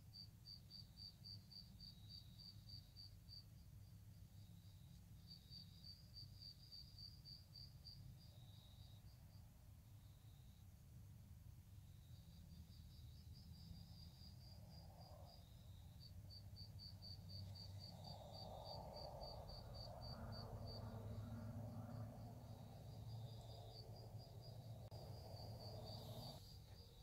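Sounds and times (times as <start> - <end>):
crickets chirping: 0.0 - 27.0
low background hiss: 0.0 - 27.0.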